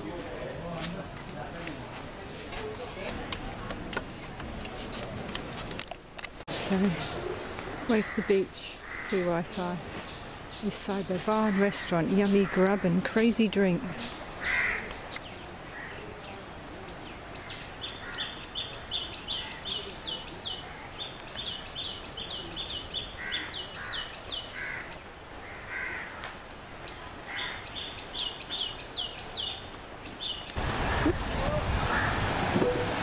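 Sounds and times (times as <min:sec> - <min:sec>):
steady outdoor background noise: 0:00.0 - 0:33.0.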